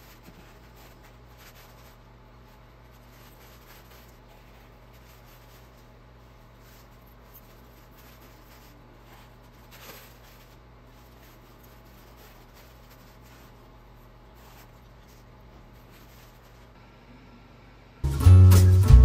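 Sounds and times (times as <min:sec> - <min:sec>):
paper rustling: 0:00.0 - 0:16.7
low steady hum: 0:00.0 - 0:19.0.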